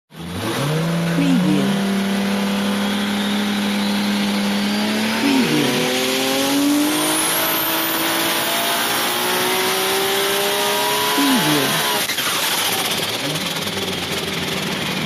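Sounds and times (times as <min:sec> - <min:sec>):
racing car engine revving: 0:00.1 - 0:15.0.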